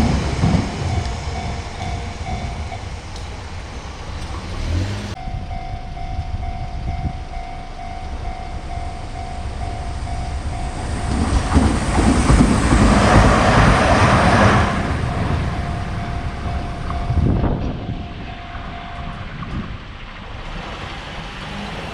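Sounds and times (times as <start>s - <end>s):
level-crossing alarm bell: 0.0s - 19.9s
tram wheels clattering on rails: 0.0s - 21.9s.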